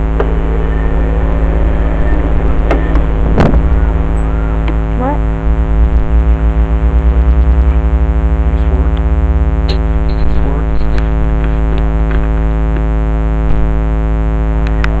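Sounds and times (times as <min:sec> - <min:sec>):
dirt bike engine idling: 0:00.0 - 0:12.6.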